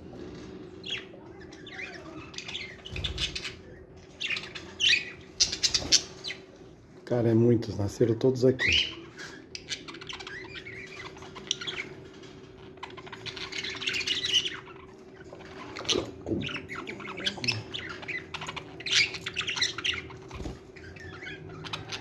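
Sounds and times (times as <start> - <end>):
budgerigars chattering: 0.8 - 6.5, 8.6 - 12.0, 12.7 - 22.0.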